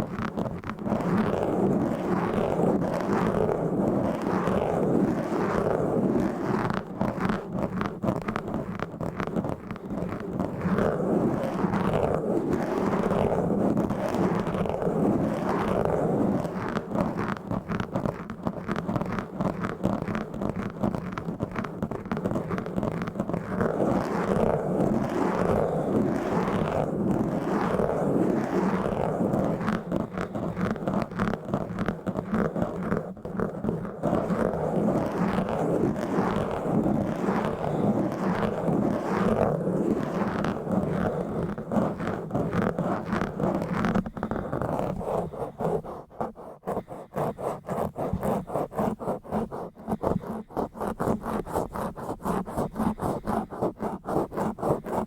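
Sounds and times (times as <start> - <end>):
fingers scratching a microphone: 0.0 - 55.0.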